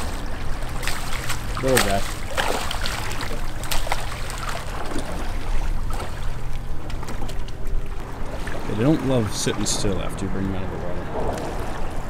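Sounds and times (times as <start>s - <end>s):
steady low hum: 0.0s - 12.0s
water splashing and sloshing: 0.0s - 12.0s.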